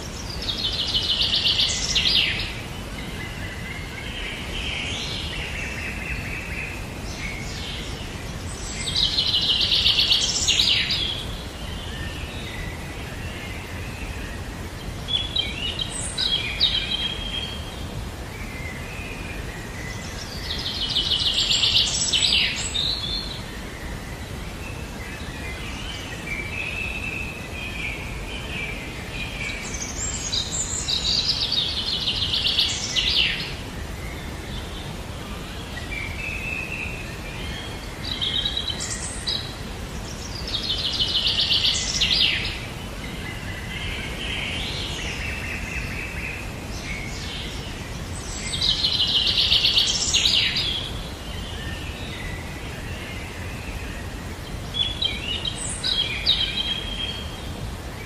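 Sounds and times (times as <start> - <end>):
background hiss: 0.0 - 58.0
soft bird chirps: 0.0 - 58.0.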